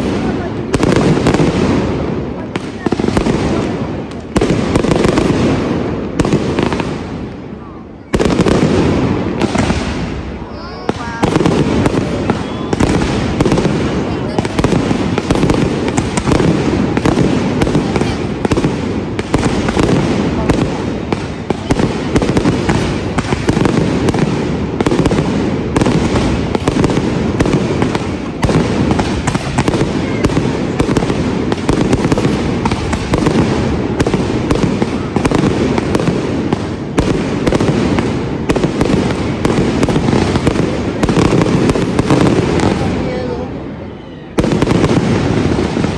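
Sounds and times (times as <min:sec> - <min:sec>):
firecracker cracks and bangs: 0:00.0 - 0:43.3, 0:44.3 - 0:45.9.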